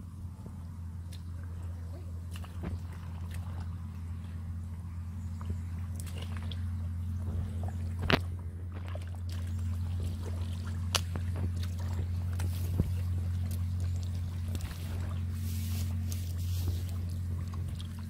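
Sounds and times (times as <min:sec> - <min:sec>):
steady low hum: 0:00.0 - 0:18.0
mud and water squelching: 0:01.0 - 0:18.0.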